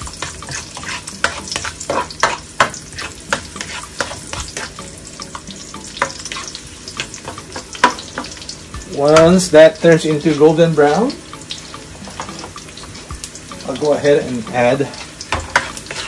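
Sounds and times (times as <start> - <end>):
spatula scraping a pan: 0.0 - 5.0, 5.6 - 16.0
garlic sizzling in hot oil: 0.0 - 16.0.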